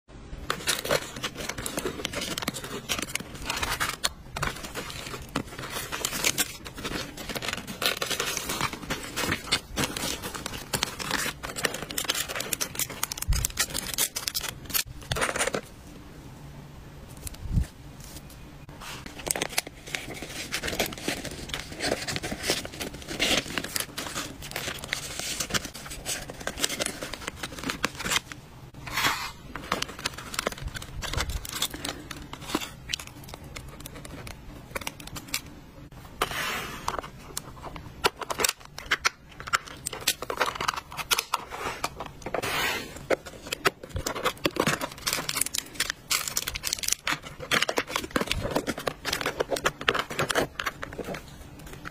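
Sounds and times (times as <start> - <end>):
plastic wrappers crinkling: 0.4 - 15.6, 19.1 - 28.4, 29.5 - 35.5, 37.2 - 42.4, 43.0 - 51.9
paper cards rustling: 0.4 - 15.7, 17.1 - 35.5, 36.2 - 51.9.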